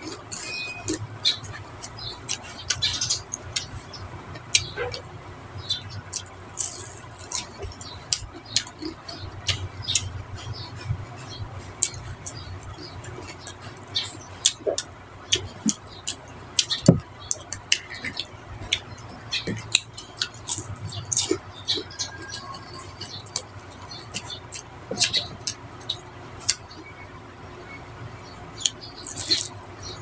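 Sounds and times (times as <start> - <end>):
mouth clicks: 0.0 - 27.0
chewing with sharp crunches: 0.0 - 27.1, 28.4 - 30.0
low steady hum: 0.0 - 30.0.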